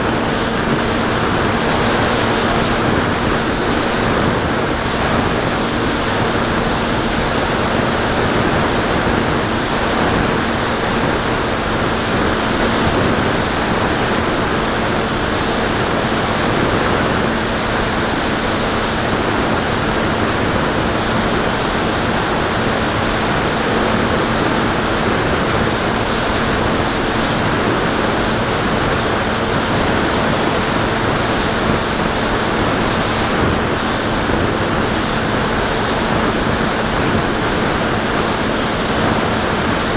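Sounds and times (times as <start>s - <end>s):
electric motor and propeller hum: 0.0s - 39.9s
wind rushing over microphone: 0.0s - 39.9s.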